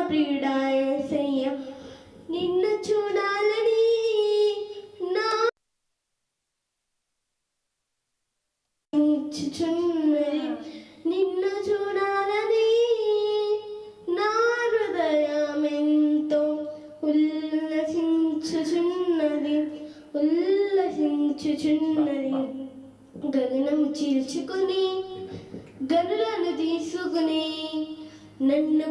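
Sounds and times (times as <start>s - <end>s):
girl singing into a microphone: 0.0s - 5.5s, 9.0s - 28.9s.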